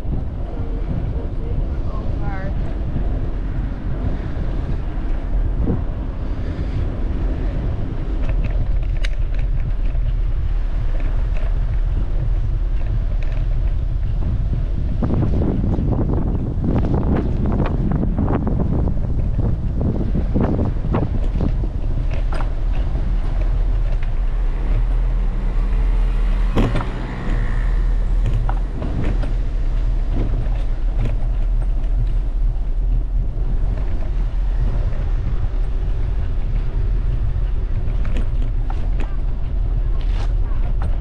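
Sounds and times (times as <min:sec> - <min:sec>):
wind and road noise: 0:00.0 - 0:41.0
bicycle clicks and knocks: 0:07.3 - 0:41.0.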